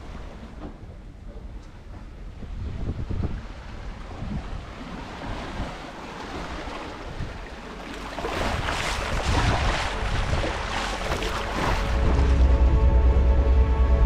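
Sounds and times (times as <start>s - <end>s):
water splashing along boat hull: 0.0s - 12.8s
wind on microphone: 1.6s - 7.5s, 8.2s - 14.0s.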